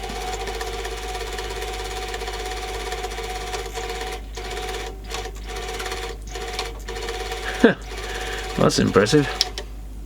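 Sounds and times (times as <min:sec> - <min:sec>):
cd player mechanism buzzing whir: 0:00.0 - 0:09.7.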